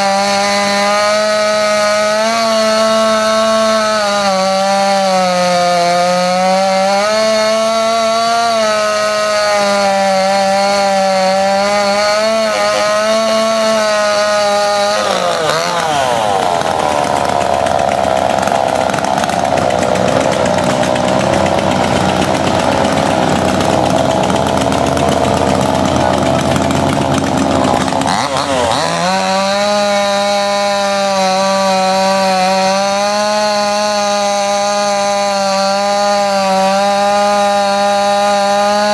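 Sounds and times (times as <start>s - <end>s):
chainsaw carving log: 0.0s - 38.9s.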